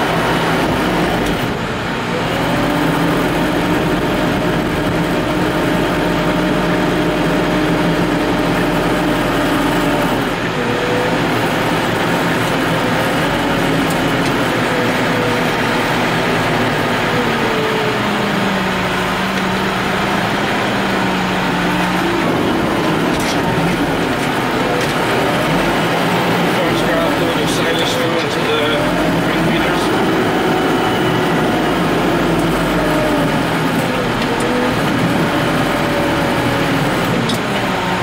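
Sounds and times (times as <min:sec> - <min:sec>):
tractor diesel engine whine: 0:00.0 - 0:38.0.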